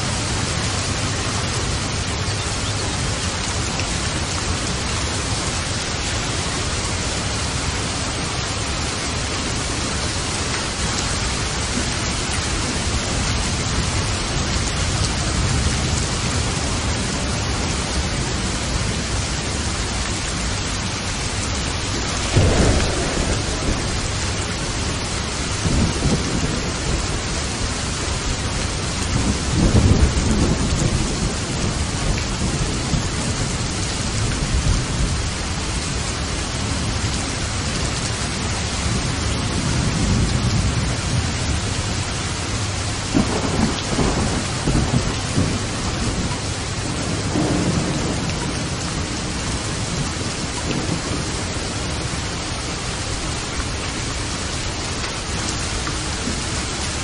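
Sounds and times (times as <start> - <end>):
thunder rumbling: 0.0 - 37.2, 38.3 - 57.0
heavy rain: 0.0 - 57.0.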